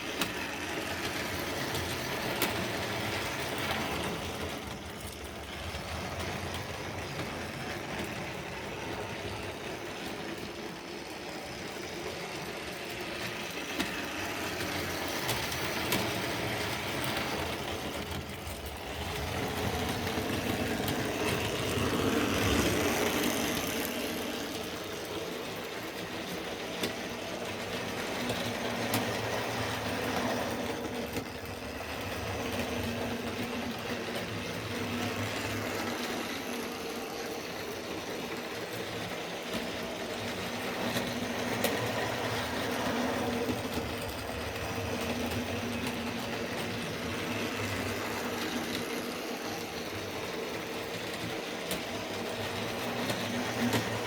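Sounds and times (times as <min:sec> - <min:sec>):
model train motor hum: 0:00.0 - 0:54.0
wheels clicking over rail joints: 0:00.0 - 0:54.0.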